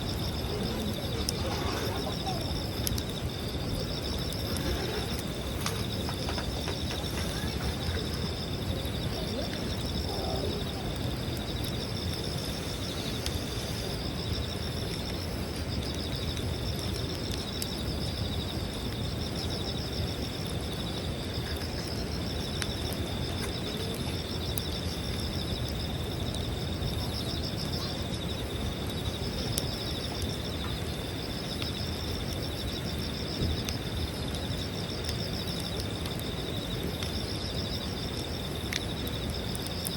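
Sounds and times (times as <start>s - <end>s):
campfire crackling and popping: 0.0s - 39.9s
insects trilling: 0.0s - 39.9s
low rushing fire noise: 0.0s - 39.9s.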